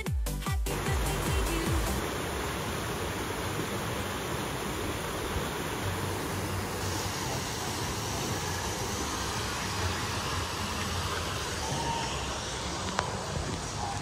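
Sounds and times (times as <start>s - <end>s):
waterfall splashing into pool: 0.7s - 14.0s.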